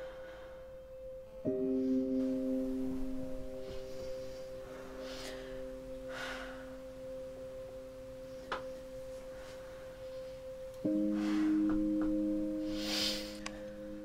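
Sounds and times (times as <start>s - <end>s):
sustained drone chord music: 0.0s - 14.0s.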